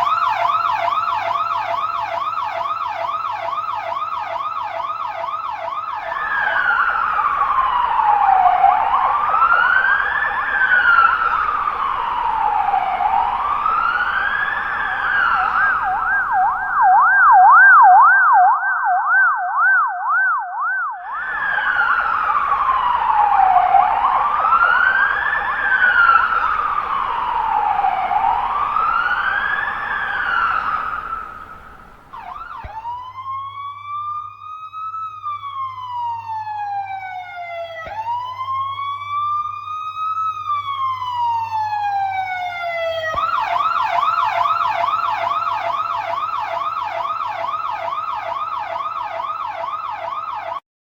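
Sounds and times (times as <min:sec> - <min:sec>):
electronic siren wailing: 0:00.0 - 0:50.6.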